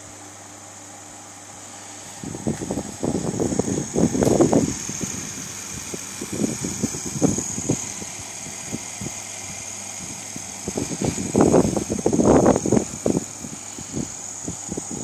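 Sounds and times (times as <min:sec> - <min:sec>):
small electric motor whine: 0:00.0 - 0:15.0
gears clicking and rattling: 0:02.4 - 0:15.0.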